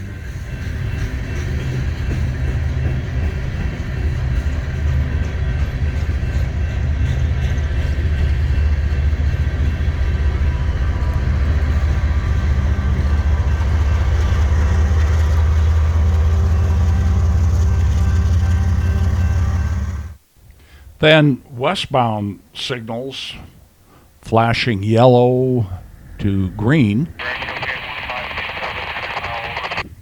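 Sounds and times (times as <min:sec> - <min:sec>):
locomotive engines rumbling: 0:00.0 - 0:20.2, 0:24.2 - 0:30.0.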